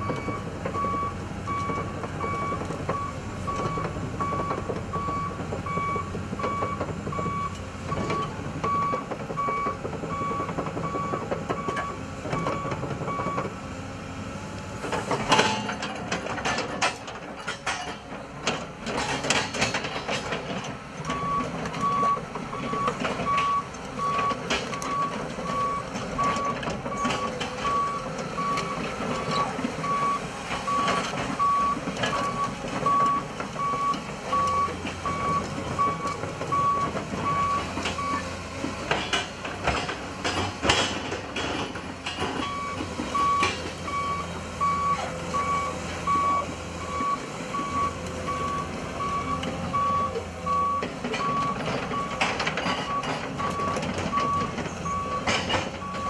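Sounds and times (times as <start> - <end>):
excavator warning alarm beeping: 0.0 - 13.6, 20.4 - 39.9, 42.3 - 56.0
diesel engine and hydraulics: 0.0 - 56.0.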